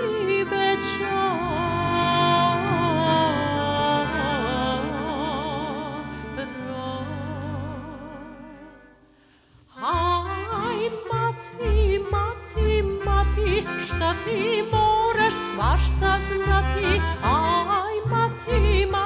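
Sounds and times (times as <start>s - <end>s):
folk music on accordion: 0.0s - 8.9s, 9.8s - 19.0s
bass: 0.0s - 9.0s, 9.8s - 19.0s.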